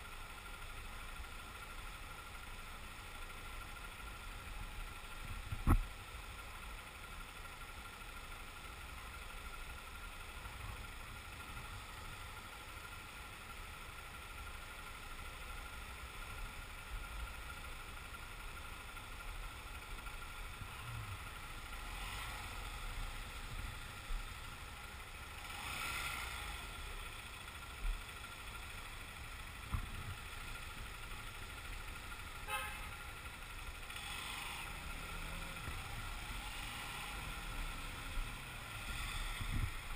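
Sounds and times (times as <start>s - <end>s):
motorcycle engine idling: 0.0s - 39.9s
street traffic: 0.0s - 39.9s.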